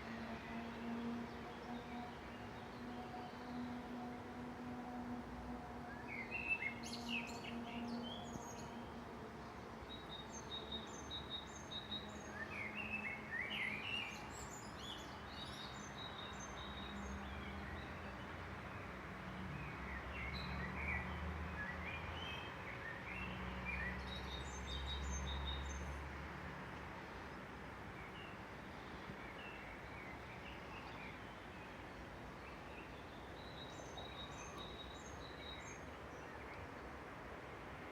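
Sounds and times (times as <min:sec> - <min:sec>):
songbirds singing: 0:00.0 - 0:26.2, 0:27.1 - 0:37.7.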